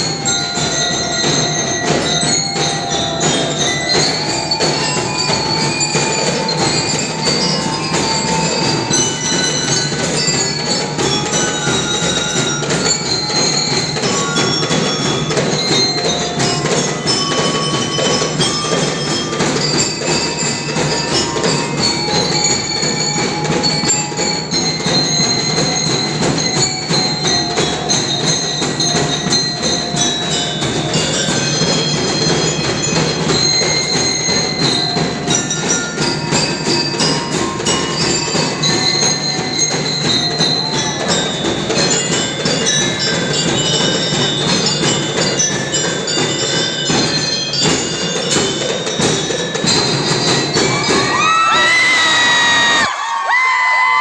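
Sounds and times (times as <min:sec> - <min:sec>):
bell lyre melody: 0:00.0 - 0:52.9
steady drumming: 0:00.0 - 0:54.0.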